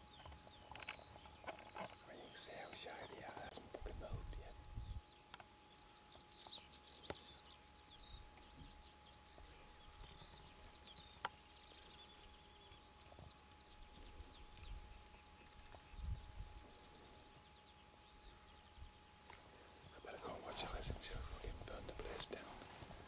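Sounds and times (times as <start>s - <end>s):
small birds chirping: 0.0s - 22.7s.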